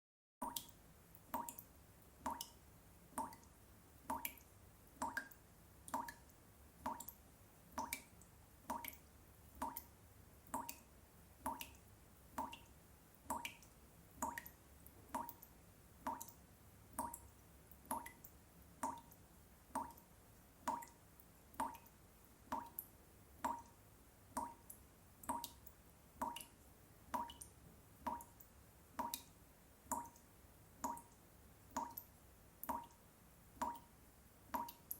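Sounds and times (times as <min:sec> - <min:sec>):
water dripping from a tap: 0:00.4 - 0:34.9.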